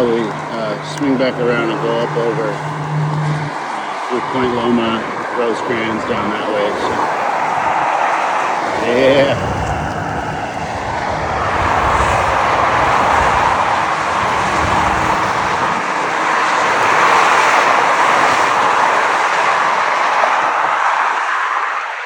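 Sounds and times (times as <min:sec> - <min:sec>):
low uneven rumble: 0:00.0 - 0:18.0
wind on microphone: 0:00.0 - 0:21.3
freeway traffic hiss: 0:00.0 - 0:22.0.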